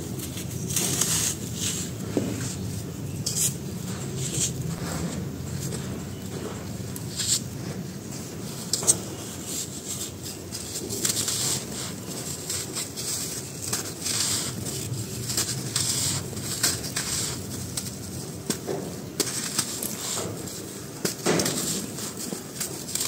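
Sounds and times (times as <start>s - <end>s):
cement chunks crunching in hands: 0.1s - 23.0s.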